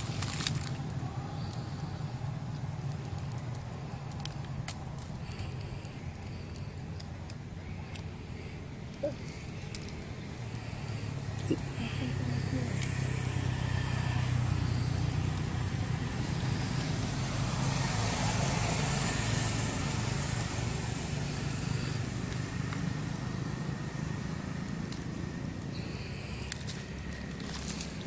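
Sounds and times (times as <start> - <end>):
constant hum: 0.0 - 28.0
low outdoor rumble: 0.0 - 28.0.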